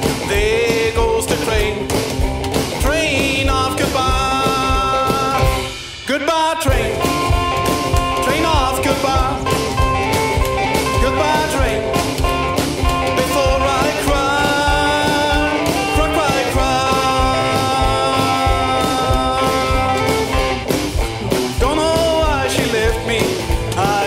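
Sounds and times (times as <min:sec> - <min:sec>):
rockabilly band playing: 0:00.0 - 0:24.0
steady drum beat: 0:00.0 - 0:24.0.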